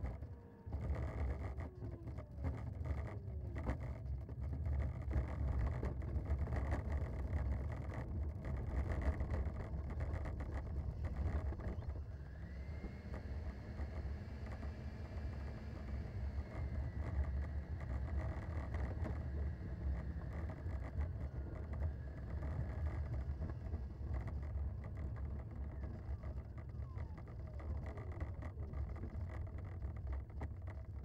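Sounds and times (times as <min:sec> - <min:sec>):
faint whine: 0:00.0 - 0:31.0
low engine rumble: 0:00.0 - 0:31.0.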